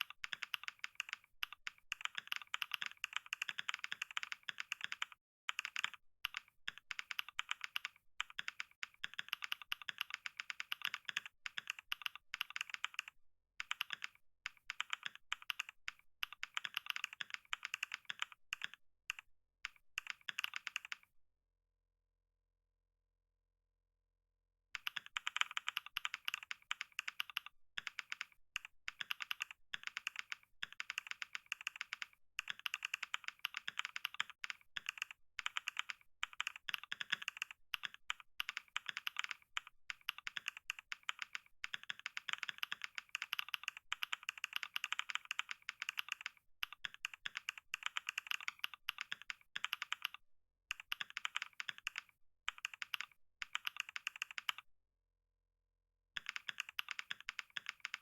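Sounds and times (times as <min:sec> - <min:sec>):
fast keyboard typing: 0:00.0 - 0:21.1, 0:24.8 - 0:54.6, 0:56.2 - 0:58.0.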